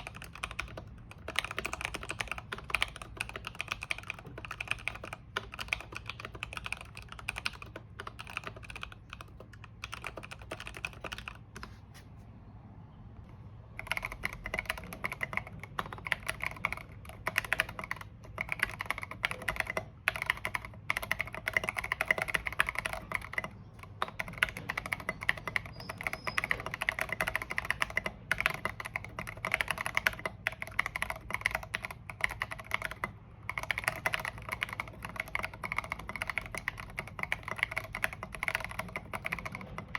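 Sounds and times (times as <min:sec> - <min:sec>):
mechanical keyboard typing: 0:00.0 - 0:11.7, 0:13.7 - 0:39.9.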